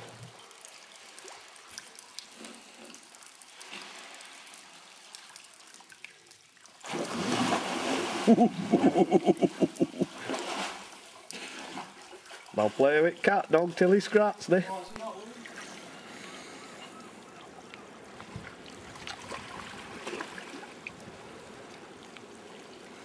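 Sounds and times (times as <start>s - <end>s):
faint water drips: 0.0s - 7.0s, 9.7s - 23.0s
water lapping around kayak: 0.0s - 14.2s, 15.0s - 23.0s.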